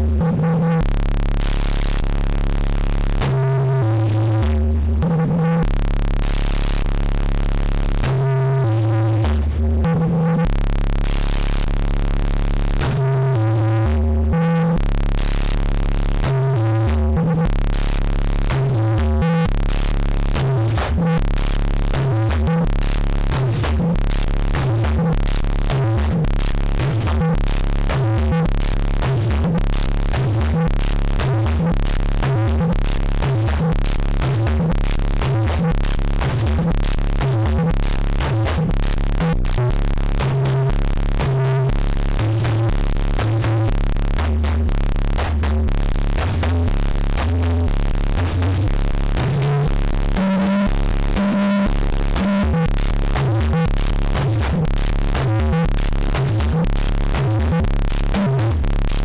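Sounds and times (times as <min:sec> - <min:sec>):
stepping synth bass notes: 0:00.0 - 0:59.0.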